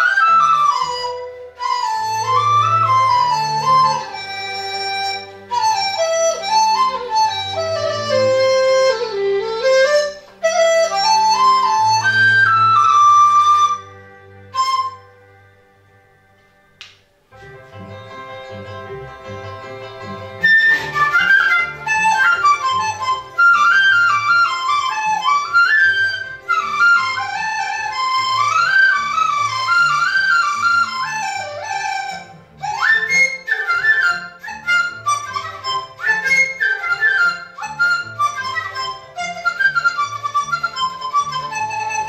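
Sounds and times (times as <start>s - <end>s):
bamboo flute melody: 0.0s - 42.0s.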